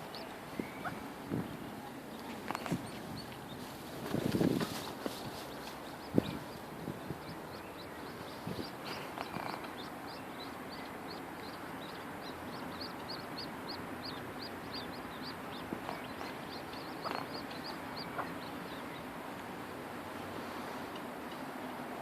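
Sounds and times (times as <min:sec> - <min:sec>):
ducklings peeping: 0:00.0 - 0:21.6.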